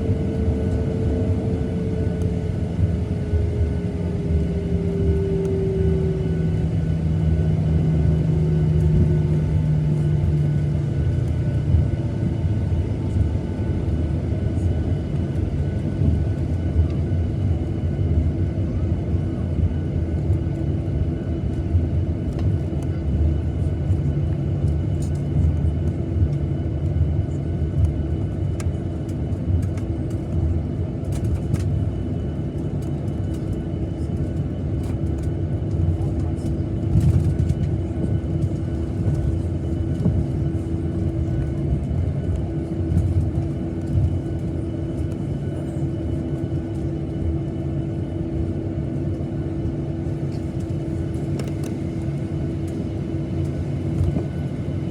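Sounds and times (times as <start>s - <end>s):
aircraft cabin rumble: 0.0s - 54.9s.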